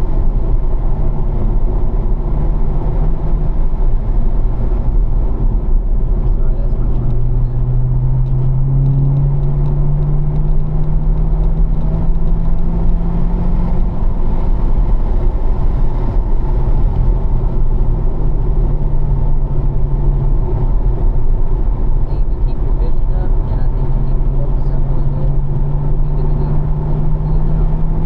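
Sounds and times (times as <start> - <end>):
car engine pulling at low revs: 0.0 - 28.0
wind and tyre noise: 0.0 - 28.0.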